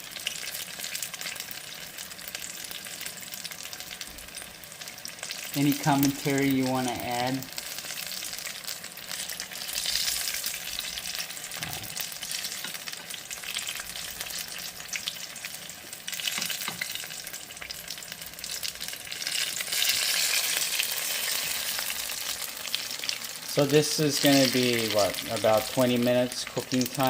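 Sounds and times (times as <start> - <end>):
food frying in hot oil: 0.0 - 27.0.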